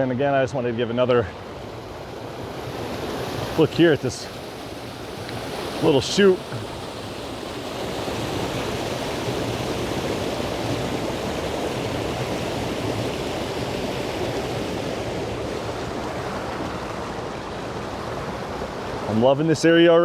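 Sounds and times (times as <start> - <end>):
creek water rushing over rocks: 0.0 - 20.0.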